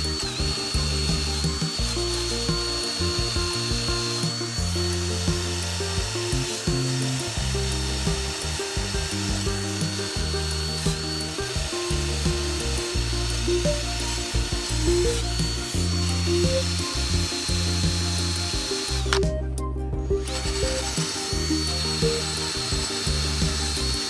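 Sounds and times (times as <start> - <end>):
background music: 0.0 - 24.0
rotary power tool whining: 0.0 - 24.0.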